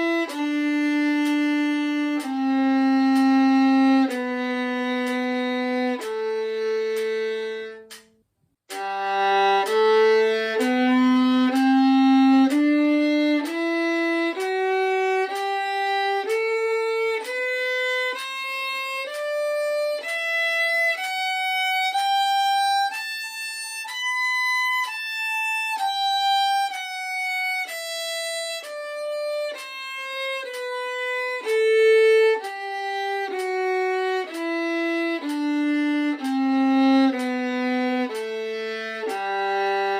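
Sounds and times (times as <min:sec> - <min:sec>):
solo violin playing a scale: 0:00.0 - 0:39.9.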